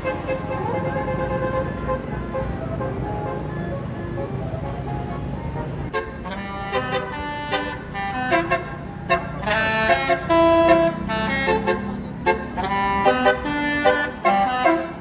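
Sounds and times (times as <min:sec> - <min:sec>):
bus engine running: 0:00.0 - 0:15.0
bus horn playing a tune: 0:00.0 - 0:15.0.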